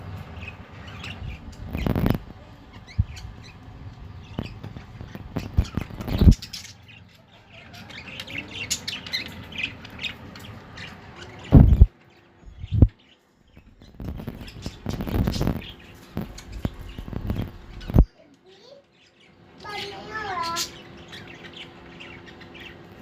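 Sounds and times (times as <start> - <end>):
budgerigars chirping: 0.4 - 23.0.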